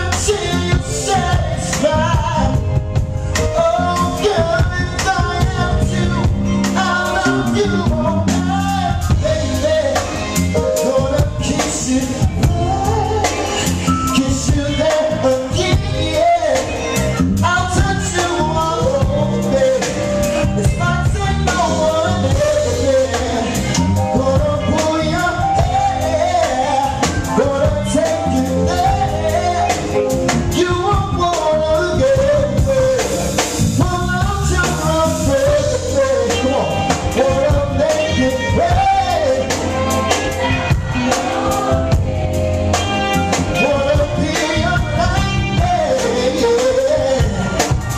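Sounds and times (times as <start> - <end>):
drums: 0.0 - 47.9
man singing: 0.0 - 47.9
soul band playing: 0.0 - 47.9.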